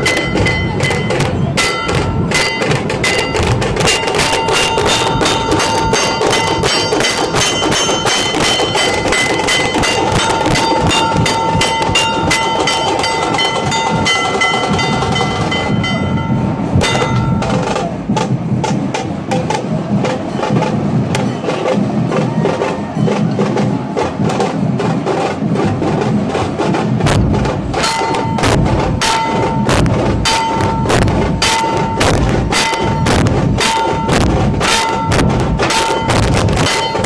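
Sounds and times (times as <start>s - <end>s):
dhol drumming: 0.0s - 37.0s.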